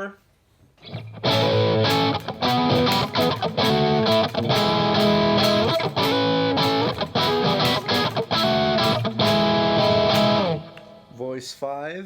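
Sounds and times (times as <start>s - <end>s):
overdriven electric guitar chords: 0.8s - 11.2s.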